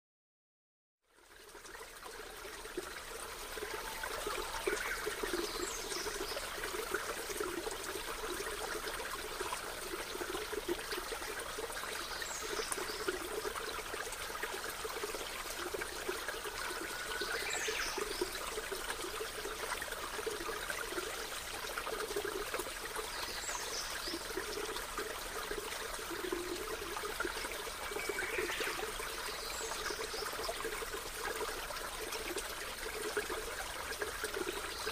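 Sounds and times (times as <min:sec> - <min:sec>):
water trickling: 0:01.0 - 0:34.9.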